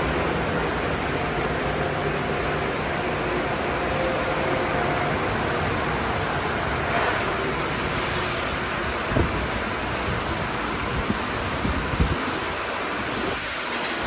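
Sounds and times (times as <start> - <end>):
car wash equipment running: 0.0 - 14.0.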